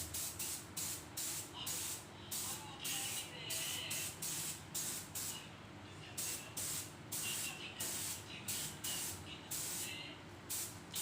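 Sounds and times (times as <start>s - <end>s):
spray paint hissing bursts: 0.0s - 5.4s, 6.2s - 11.0s.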